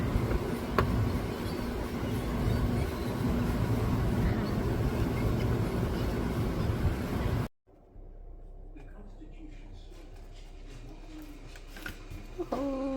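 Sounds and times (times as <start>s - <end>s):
vehicle engine rumble: 0.0s - 12.9s.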